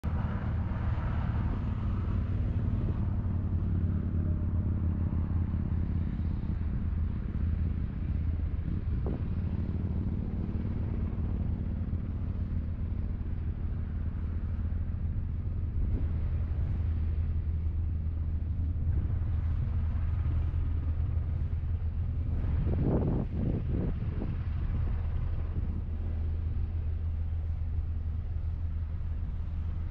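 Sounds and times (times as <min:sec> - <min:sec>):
engine droning: 0:00.0 - 0:29.9.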